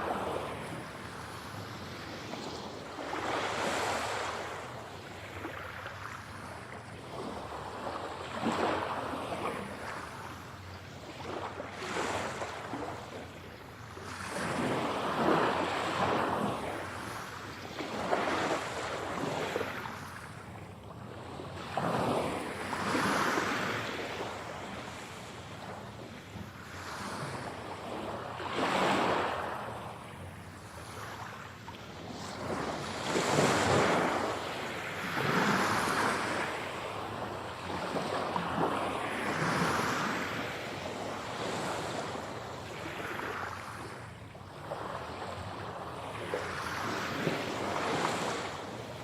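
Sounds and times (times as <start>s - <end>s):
ocean waves breaking on shore: 0.0s - 49.0s.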